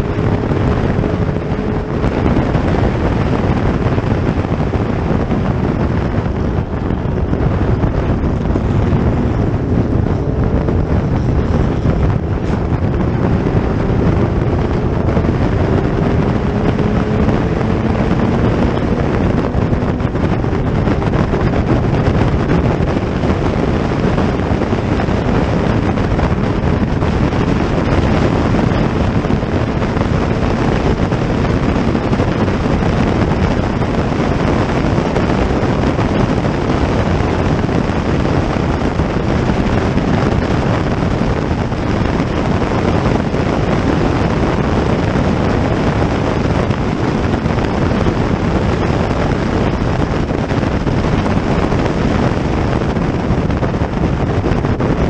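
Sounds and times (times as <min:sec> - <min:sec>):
vehicle running: 0:00.0 - 0:55.0
wind on microphone: 0:00.0 - 0:55.0.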